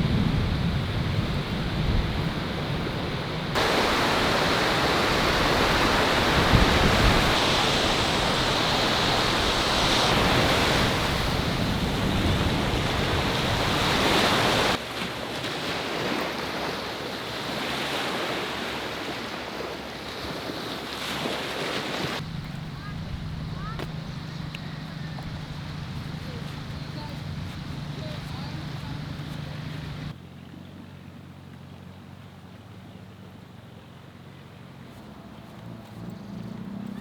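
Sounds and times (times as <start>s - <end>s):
surf washing ashore: 0.0s - 30.2s
wind: 0.0s - 37.0s.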